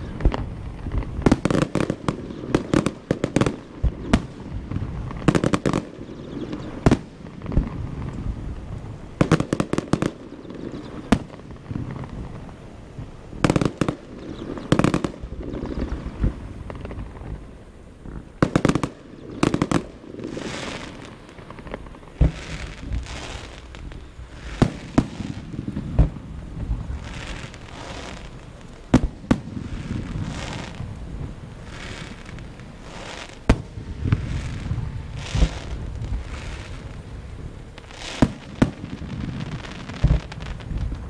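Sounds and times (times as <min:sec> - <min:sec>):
fireworks bangs: 0:00.0 - 0:41.0
fireworks crackling: 0:00.0 - 0:41.0.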